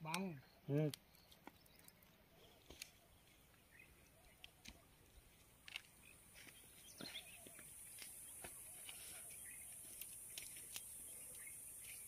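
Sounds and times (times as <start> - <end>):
birds chirping: 0.0 - 12.0
riverside ambience: 0.0 - 12.0.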